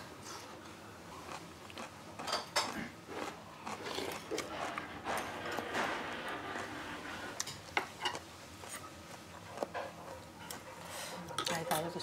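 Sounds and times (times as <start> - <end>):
people eating: 0.2 - 12.0.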